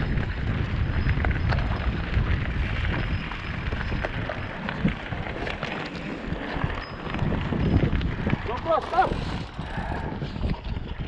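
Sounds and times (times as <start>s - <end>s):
bike clicking and rattling: 0.0s - 11.0s
wind buffeting microphone: 0.0s - 11.0s.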